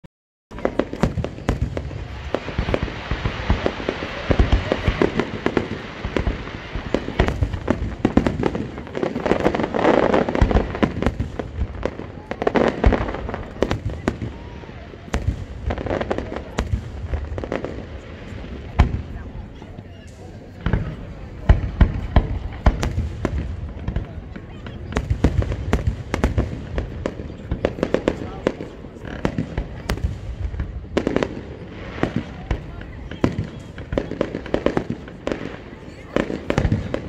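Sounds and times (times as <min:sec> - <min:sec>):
fireworks bangs and crackles: 0:00.5 - 0:37.0.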